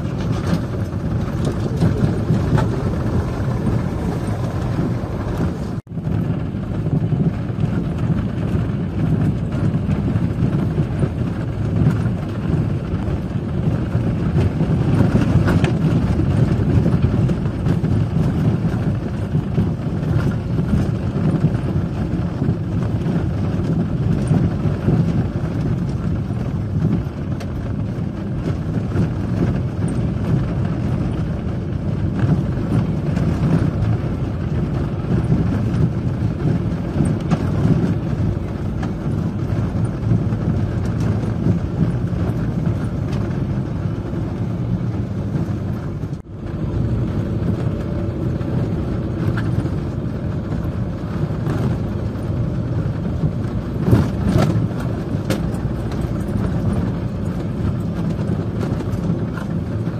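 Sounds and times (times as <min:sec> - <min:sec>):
vehicle engine and tyres rumbling: 0:00.0 - 0:59.9.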